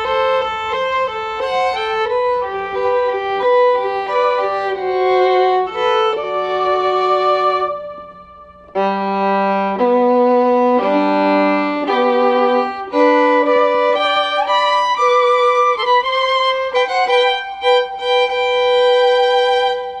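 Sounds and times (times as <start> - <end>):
slow violin melody: 0.0 - 20.0.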